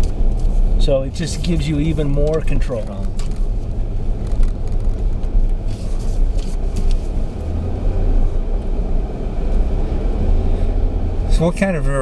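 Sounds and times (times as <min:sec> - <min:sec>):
vehicle rumble on dirt trail: 0:00.0 - 0:12.0.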